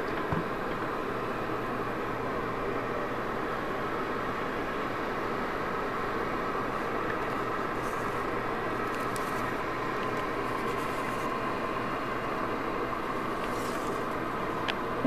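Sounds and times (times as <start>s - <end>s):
jet engine roar with whine: 0.0s - 15.0s.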